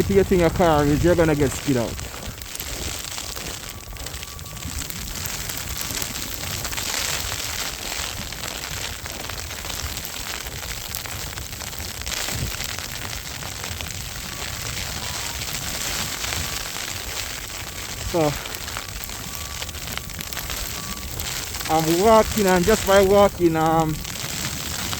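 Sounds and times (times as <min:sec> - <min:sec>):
blizzard wind buffeting microphone: 0:00.0 - 0:24.9
hiss of wind-driven snow: 0:00.0 - 0:24.9.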